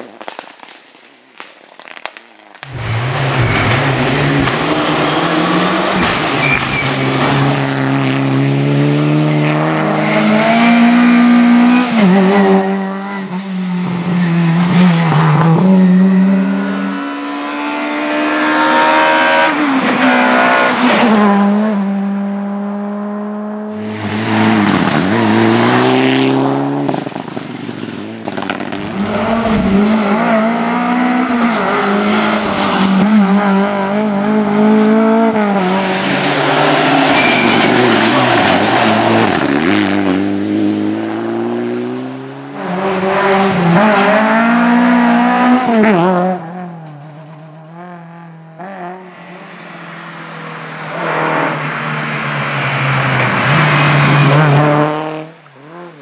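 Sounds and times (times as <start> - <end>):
rally cars passing at full throttle: 2.6 - 56.0.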